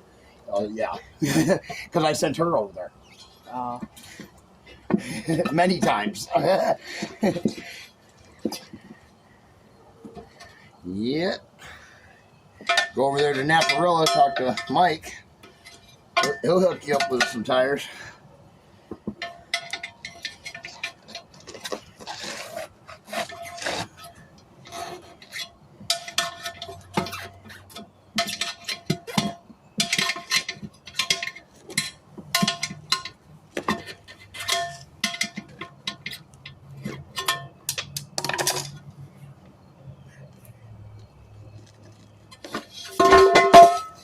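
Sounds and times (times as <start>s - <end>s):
metal tools clanking on wheel rim: 0.5s - 9.3s, 10.0s - 44.0s.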